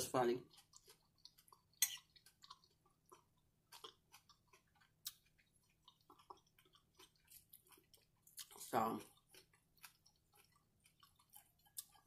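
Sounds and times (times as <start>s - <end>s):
chewing crispy food: 0.0s - 12.0s.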